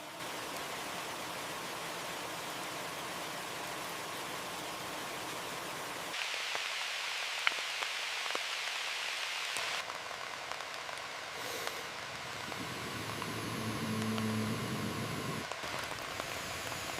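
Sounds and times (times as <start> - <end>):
heavy rain hiss: 0.0 - 16.9.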